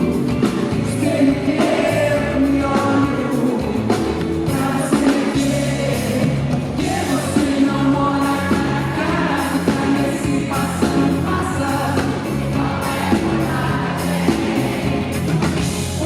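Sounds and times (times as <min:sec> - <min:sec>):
live pop band: 0:00.0 - 0:16.0.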